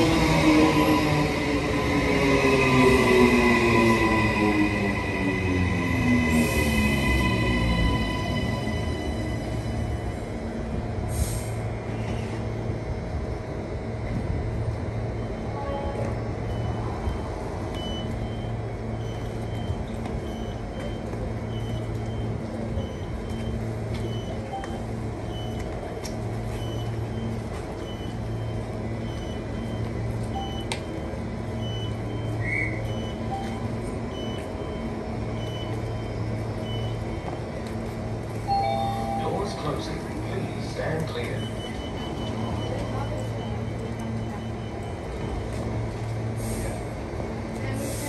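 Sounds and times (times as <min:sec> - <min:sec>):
train low hum pulsing: 0:00.0 - 0:48.0.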